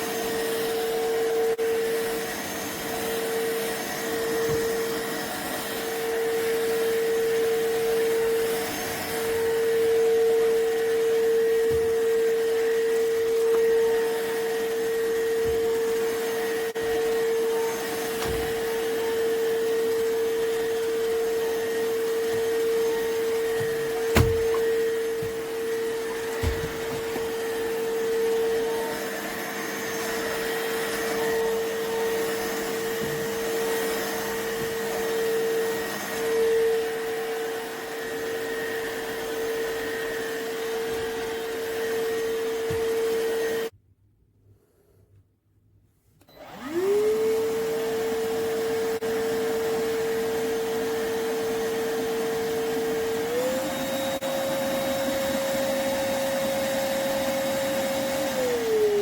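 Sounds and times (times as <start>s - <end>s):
vacuum cleaner motor whine: 0.0s - 43.7s, 46.2s - 59.0s.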